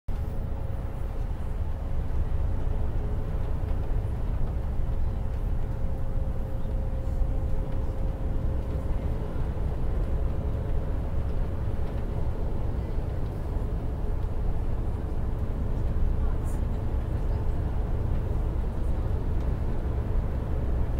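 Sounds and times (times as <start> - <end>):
coach engine rumble: 0.1 - 20.9
tyres on snowy road: 0.1 - 20.9.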